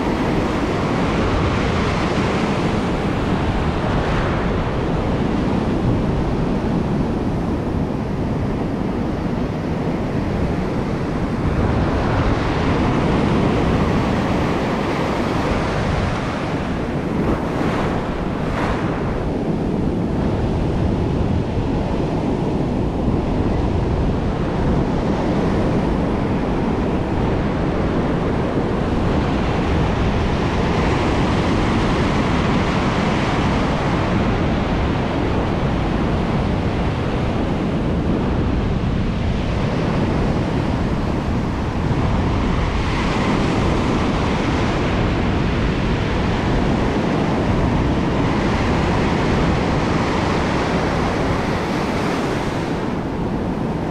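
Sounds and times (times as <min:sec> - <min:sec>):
ocean surf breaking on beach: 0:00.0 - 0:53.9.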